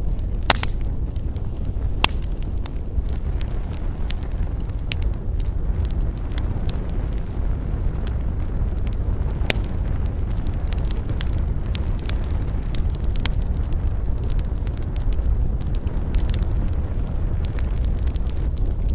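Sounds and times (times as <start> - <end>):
burning wood crackling and popping: 0.0 - 18.9
flames rumbling: 0.0 - 18.9.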